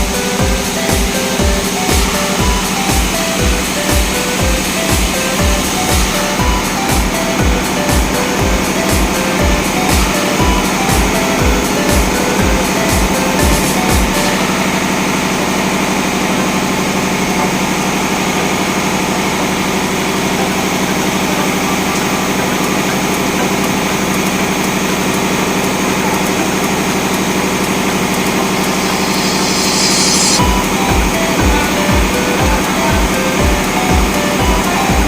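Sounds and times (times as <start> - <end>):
diesel engine drone: 0.0 - 35.0.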